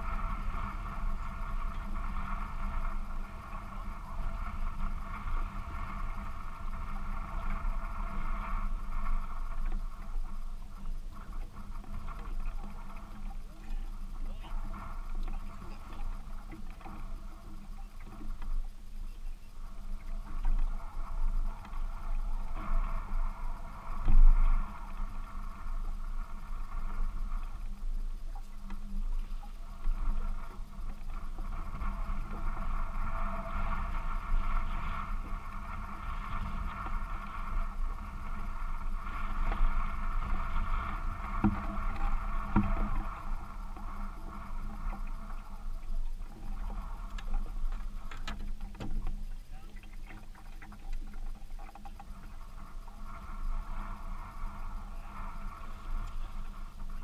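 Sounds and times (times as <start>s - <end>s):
wind on microphone: 0.0s - 57.0s
water lapping against boat hull: 0.1s - 57.0s.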